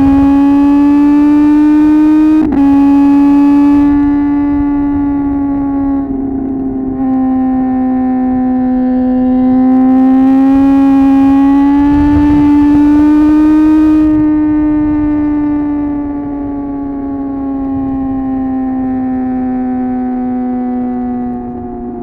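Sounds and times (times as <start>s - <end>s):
low wind rumble: 0.0s - 22.0s
motorcycle engine running: 0.0s - 22.0s.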